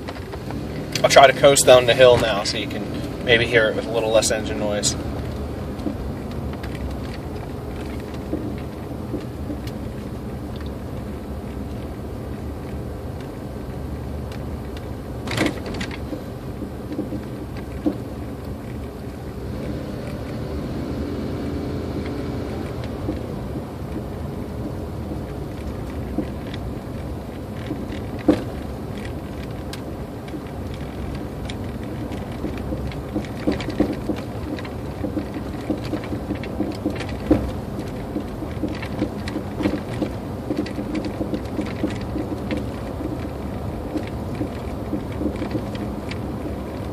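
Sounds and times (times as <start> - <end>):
road and tyre rumble: 0.0 - 46.9
suspension popping: 0.0 - 46.9.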